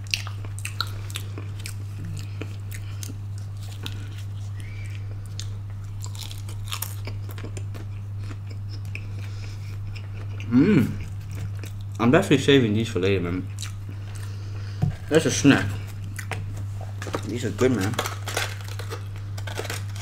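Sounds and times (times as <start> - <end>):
chewing and crunching food: 0.0 - 12.0, 13.3 - 20.0
steady low hum: 0.0 - 20.0.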